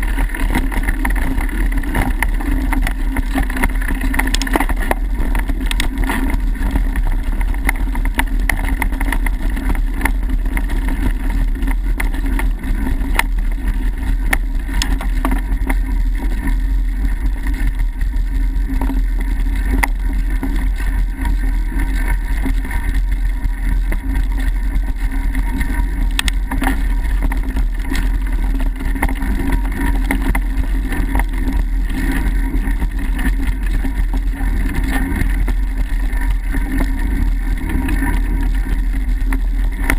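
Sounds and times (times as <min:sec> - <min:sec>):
bike knocks and rattles: 0:00.0 - 0:39.9
bike tyres rumbling on dirt: 0:00.0 - 0:39.9.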